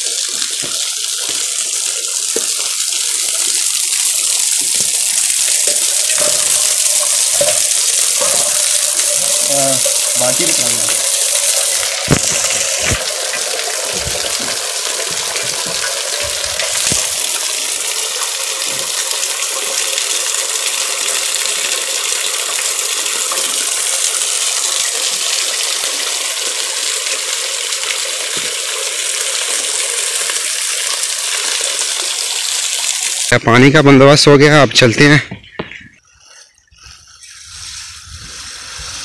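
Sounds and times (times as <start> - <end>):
water splashing into pot: 0.0 - 33.3
water running down rock: 0.0 - 33.4.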